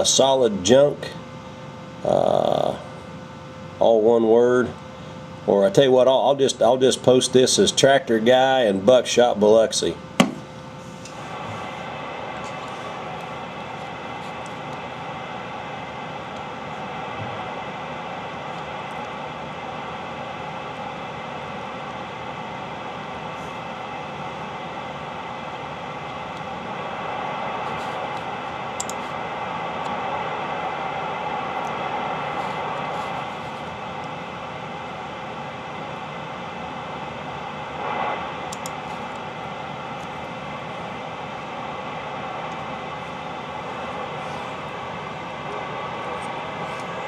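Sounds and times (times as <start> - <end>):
radio static hiss: 1.9 - 3.1, 3.8 - 47.0.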